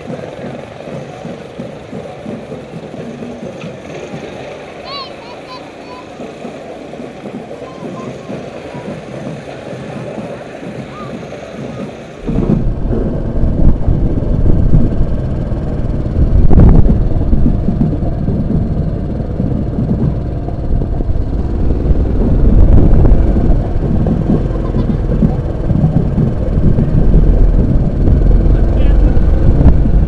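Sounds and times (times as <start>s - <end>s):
motorcycle engine rumble: 0.0s - 30.0s
wind buffeting microphone: 0.0s - 30.0s.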